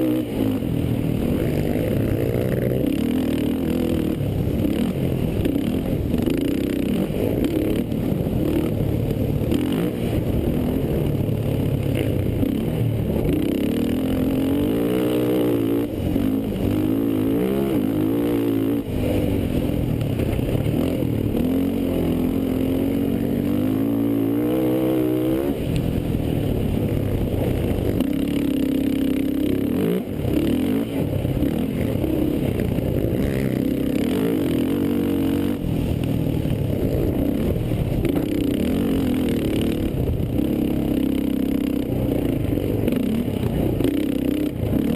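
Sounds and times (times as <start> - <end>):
quad engines revving: 0.0 - 25.9, 27.1 - 44.9.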